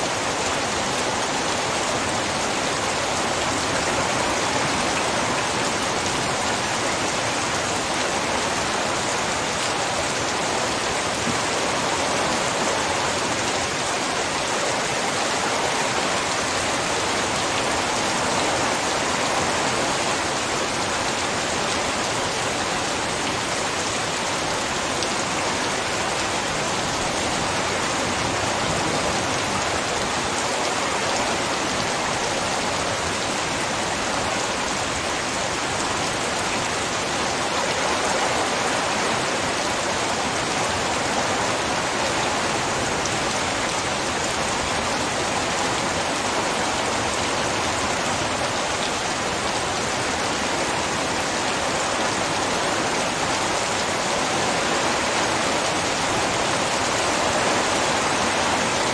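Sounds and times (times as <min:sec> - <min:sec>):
torrential rain: 0:00.0 - 0:58.9.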